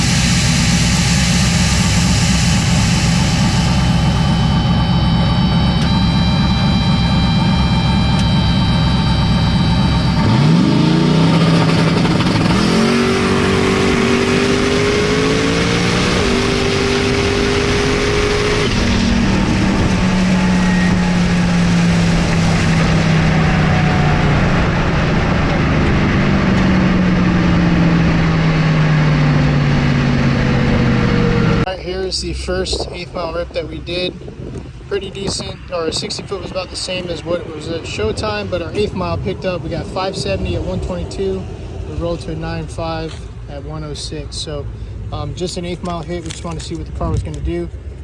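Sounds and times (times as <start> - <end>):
drag car engine revving: 0.0 - 43.9.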